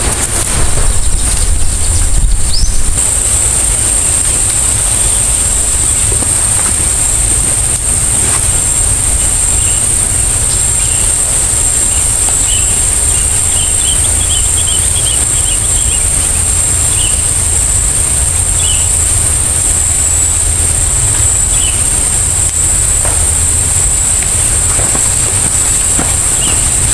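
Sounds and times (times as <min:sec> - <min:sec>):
high-pitched insect drone: 0:00.0 - 0:26.9
low rumble: 0:00.0 - 0:26.9
bird chirps: 0:00.6 - 0:04.0, 0:08.1 - 0:24.2, 0:24.8 - 0:26.9.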